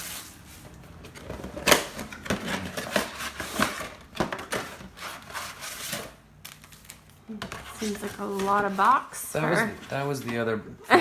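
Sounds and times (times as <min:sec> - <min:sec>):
packaging rustling and scraping: 0:00.0 - 0:10.5.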